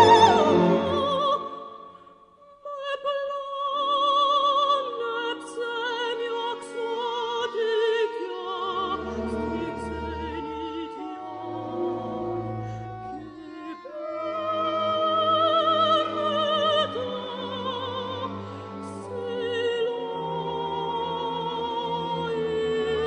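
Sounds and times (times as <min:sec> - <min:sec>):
soft slow orchestral music: 0:00.0 - 0:02.0, 0:03.8 - 0:23.0.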